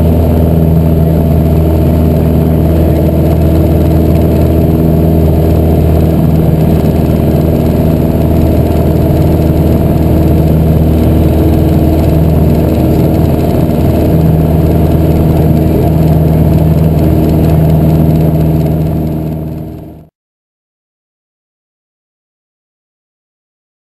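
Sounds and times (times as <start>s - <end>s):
light aircraft engine and propeller: 0.0s - 20.1s.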